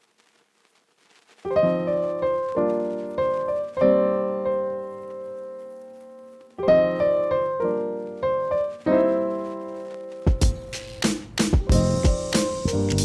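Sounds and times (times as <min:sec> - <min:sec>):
piano music: 0:01.5 - 0:13.0.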